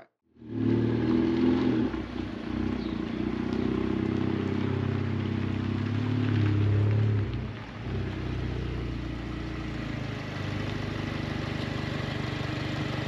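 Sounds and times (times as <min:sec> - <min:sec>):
car engine running: 0:01.8 - 0:13.0.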